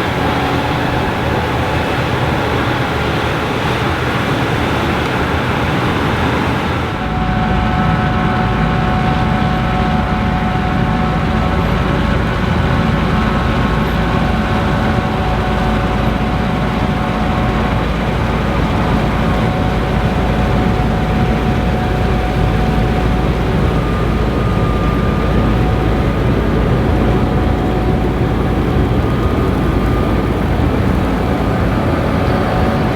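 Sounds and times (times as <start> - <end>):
combine harvester droning: 0.0 - 32.9
harvester whine: 0.0 - 32.9.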